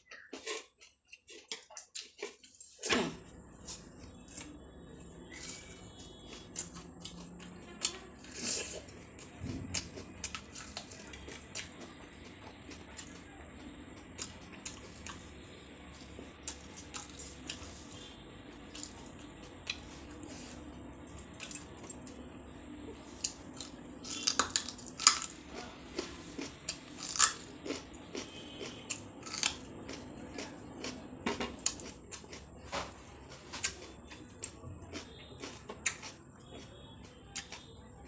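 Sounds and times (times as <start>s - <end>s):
person chewing with crunches: 0.0s - 37.9s.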